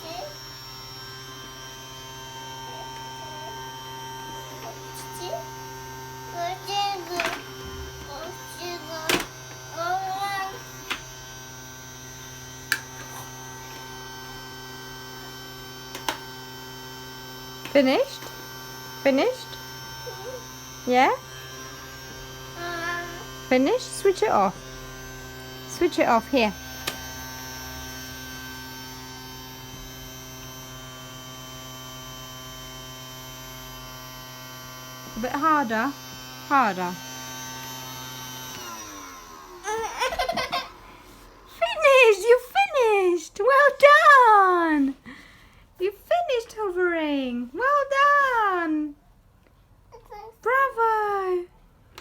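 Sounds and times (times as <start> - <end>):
vacuum cleaner humming: 0.0 - 48.9.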